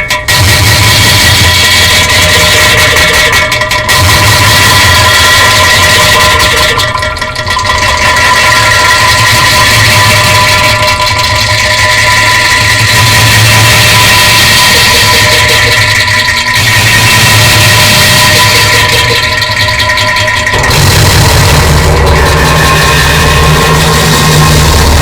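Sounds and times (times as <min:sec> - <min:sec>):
distorted fart sound effect: 0:00.3 - 0:19.7, 0:20.5 - 0:25.0.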